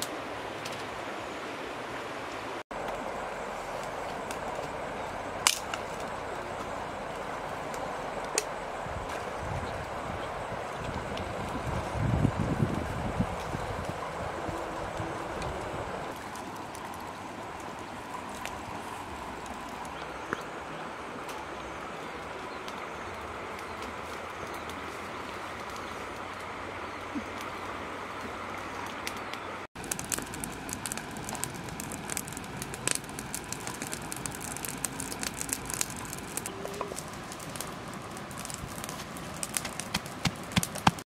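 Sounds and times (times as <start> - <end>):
wood fire crackling: 2.7 - 41.0.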